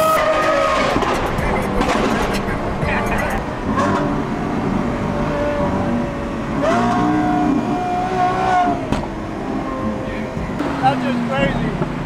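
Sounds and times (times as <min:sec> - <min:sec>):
sports car engine: 0:00.0 - 0:12.0.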